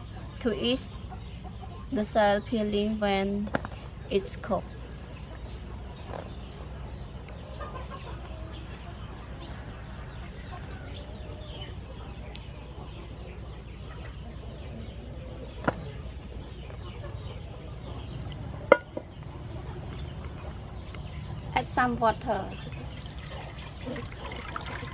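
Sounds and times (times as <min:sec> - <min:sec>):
chickens clucking: 0:00.0 - 0:21.5, 0:22.5 - 0:24.9
steady low hum: 0:00.0 - 0:24.9.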